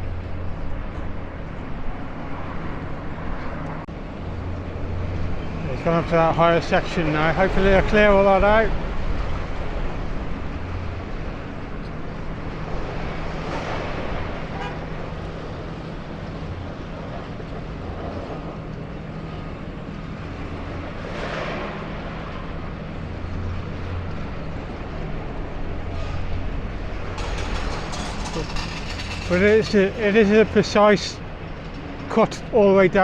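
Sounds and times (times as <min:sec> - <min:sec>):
diesel engine drone: 0:00.0 - 0:33.0
vehicles passing: 0:00.0 - 0:33.0.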